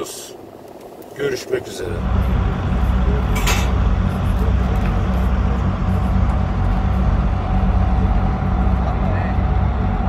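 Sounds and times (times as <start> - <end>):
car engine and road drone: 1.8 - 10.0.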